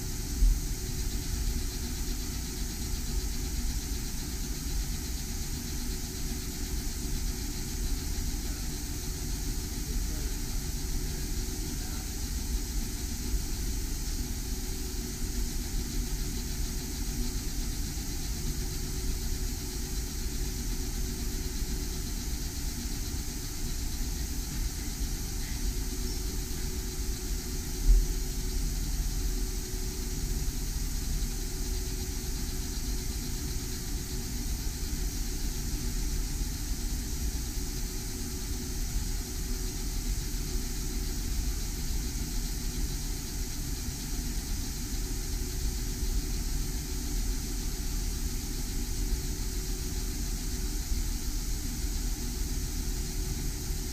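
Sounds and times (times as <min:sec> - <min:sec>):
laser engraver humming: 0:00.0 - 0:53.9.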